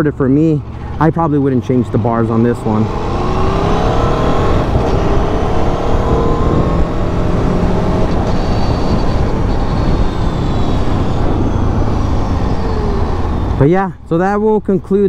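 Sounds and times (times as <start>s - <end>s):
rushing wind noise: 0.6s - 13.6s
motorcycle engine revving: 0.6s - 13.7s.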